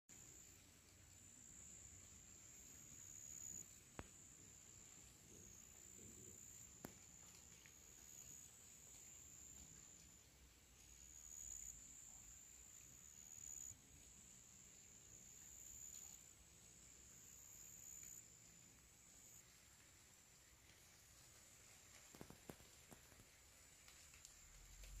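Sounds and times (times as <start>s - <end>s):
insects chirring: 0.1s - 25.0s.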